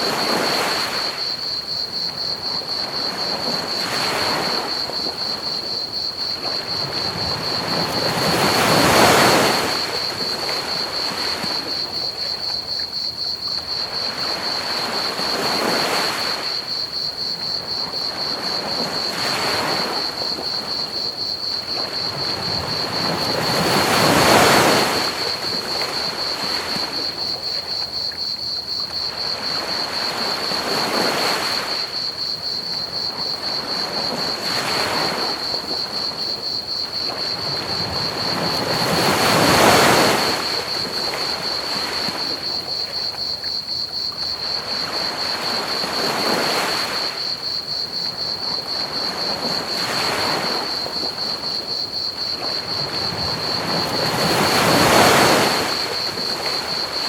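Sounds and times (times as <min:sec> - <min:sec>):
crickets chirping: 0:00.0 - 0:57.0
ocean waves washing onto beach: 0:00.0 - 0:57.0.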